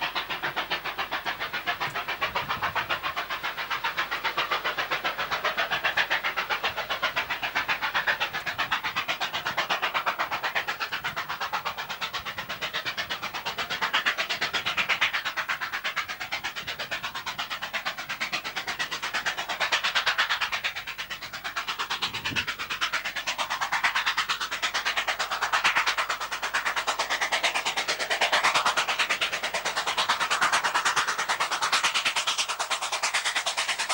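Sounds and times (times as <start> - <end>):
steam locomotive exhaust beats: 0.0 - 33.9.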